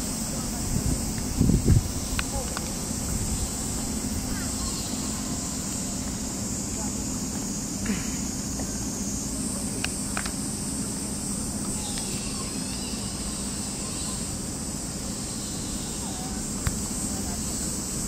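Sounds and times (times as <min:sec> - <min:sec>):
high hiss: 0:00.0 - 0:18.0.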